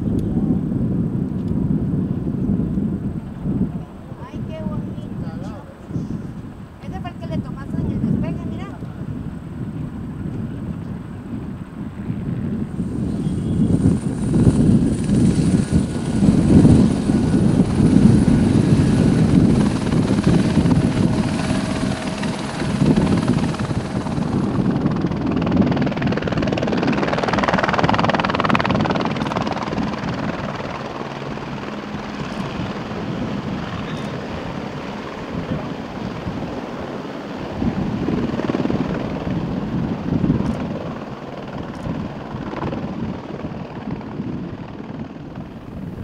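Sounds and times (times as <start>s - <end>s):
helicopter rotor and turbine noise: 0.0s - 46.0s
pulsing helicopter rotor: 0.1s - 46.0s.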